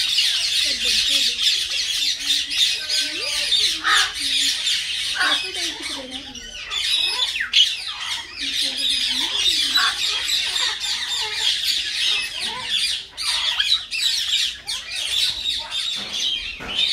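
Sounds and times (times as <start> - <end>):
myna chattering: 0.0 - 16.9.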